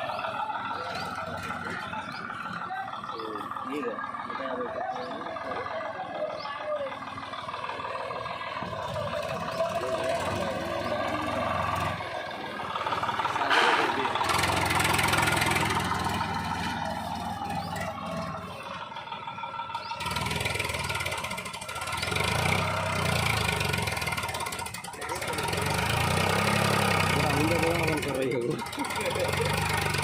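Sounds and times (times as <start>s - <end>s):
heavy machinery diesel engines: 0.0s - 30.0s.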